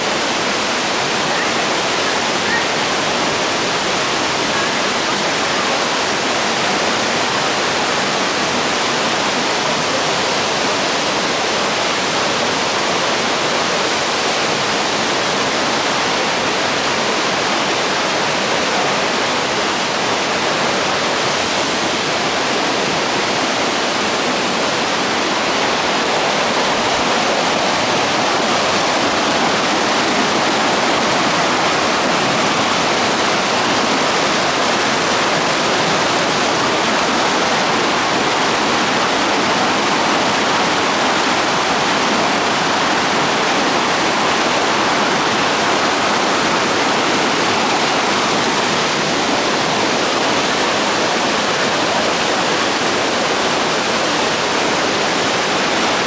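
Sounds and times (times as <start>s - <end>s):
waterfall pouring over rocks: 0.0s - 56.0s.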